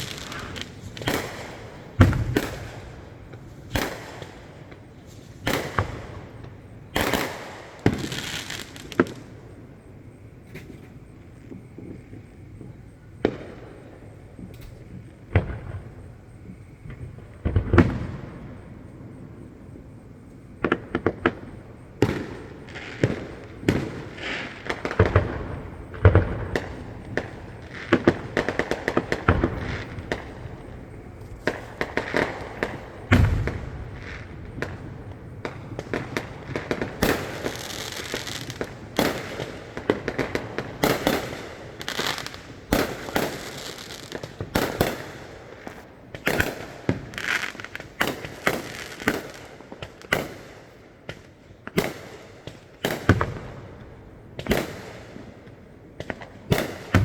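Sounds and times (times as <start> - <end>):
distant fireworks bursting: 0.0 - 57.0.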